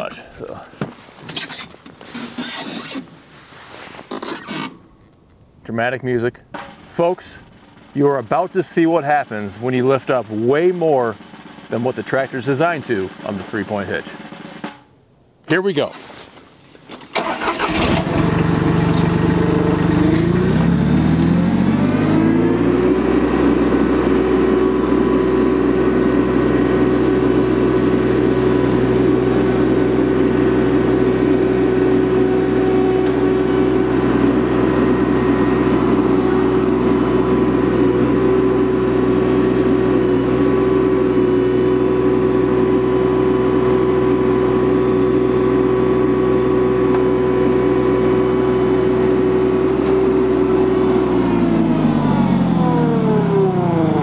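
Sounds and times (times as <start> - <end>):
tractor engine revving: 6.6 - 14.8, 17.1 - 54.0.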